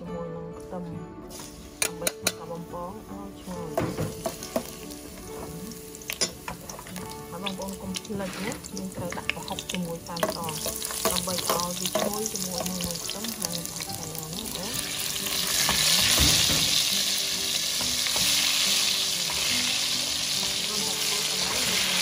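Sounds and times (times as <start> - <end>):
garlic sizzling in oil: 3.4 - 22.0.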